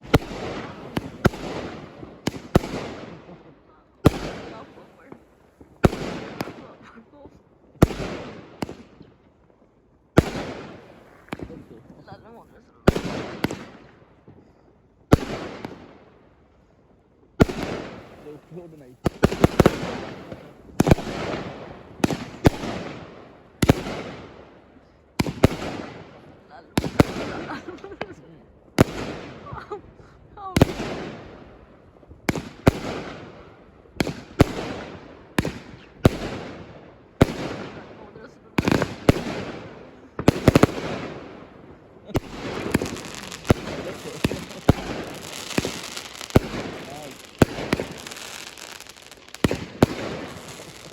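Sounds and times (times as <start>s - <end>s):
fireworks bangs: 0.0s - 9.2s, 10.1s - 14.5s, 15.1s - 16.1s, 17.4s - 50.9s
fireworks crackling: 0.0s - 9.2s, 10.0s - 16.1s, 17.4s - 50.9s.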